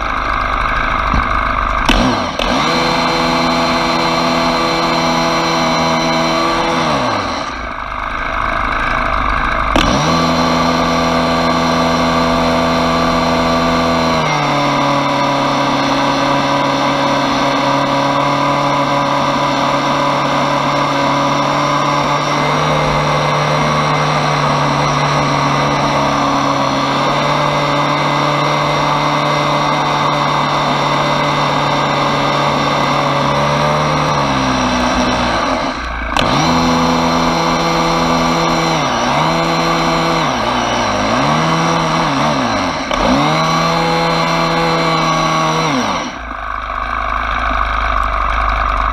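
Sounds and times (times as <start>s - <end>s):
leaf blower engine running: 0.0s - 48.9s.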